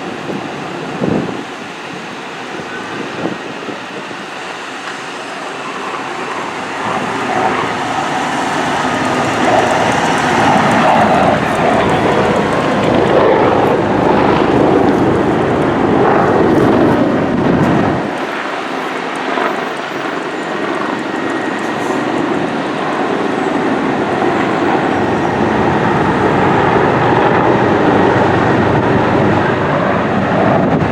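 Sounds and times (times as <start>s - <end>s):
fire engine running: 0.0s - 30.9s
road noise: 0.0s - 30.9s.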